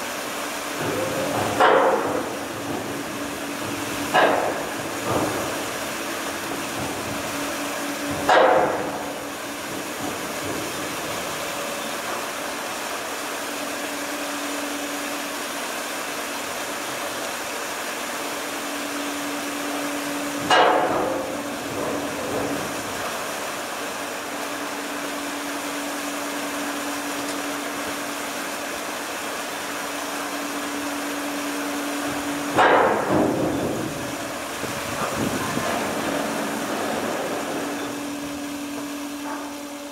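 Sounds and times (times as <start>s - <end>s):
ship machinery hum: 0.0s - 39.9s.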